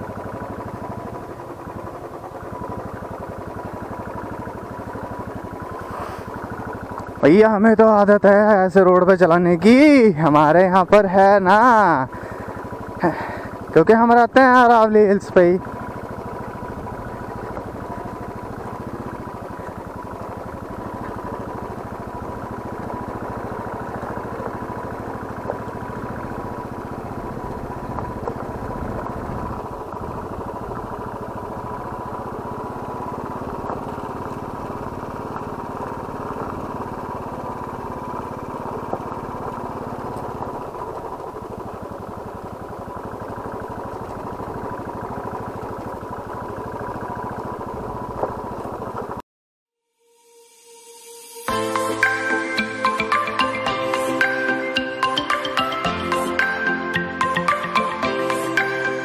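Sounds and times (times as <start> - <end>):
motorcycle engine running: 0.0 - 49.2, 50.0 - 59.0.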